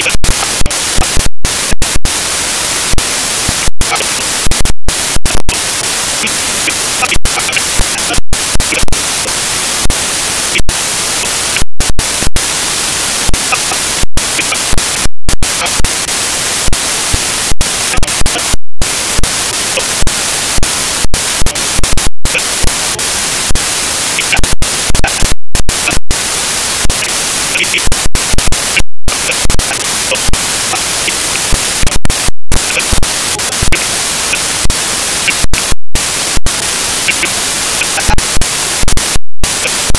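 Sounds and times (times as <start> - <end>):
loud static hiss: 0.0 - 39.9
static spikes: 0.0 - 39.9.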